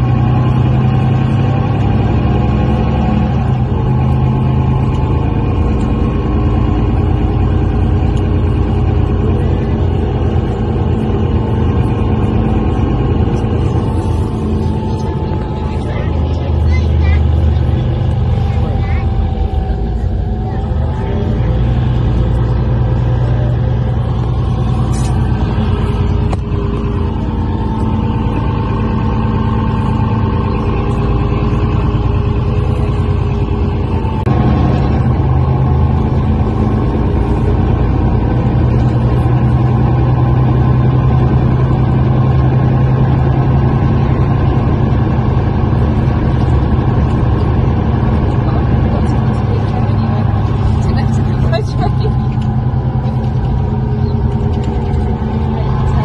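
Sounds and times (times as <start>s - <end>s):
humming tones: 0.0s - 56.0s
road rumble: 0.0s - 56.0s
vehicle engine drone: 0.0s - 56.0s.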